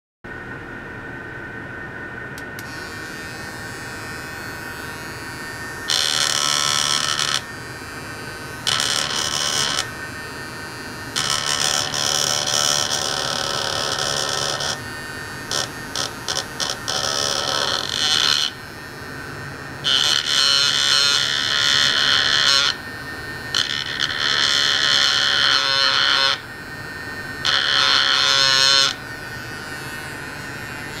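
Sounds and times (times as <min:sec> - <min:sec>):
steady electrical hum: 0:00.3 - 0:31.0
harsh high-pitched buzz: 0:02.2 - 0:31.0.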